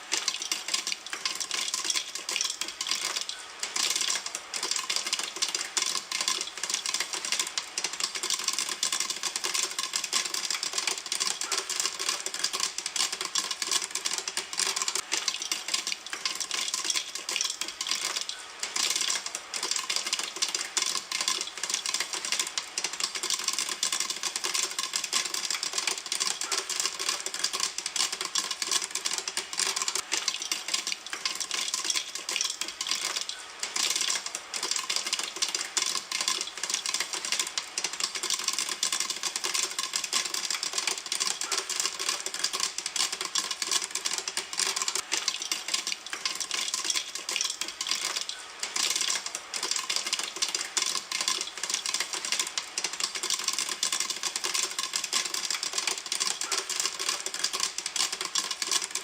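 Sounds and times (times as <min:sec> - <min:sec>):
popcorn popping in a pan: 0:00.0 - 0:59.0.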